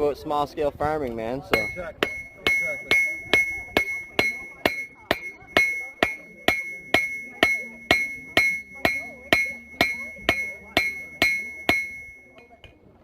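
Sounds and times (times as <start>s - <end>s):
hammer striking an anvil: 1.6s - 12.7s.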